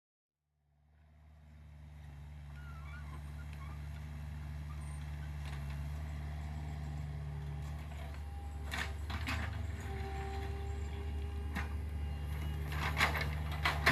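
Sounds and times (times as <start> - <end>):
excavator diesel engine running: 0.9 - 13.9.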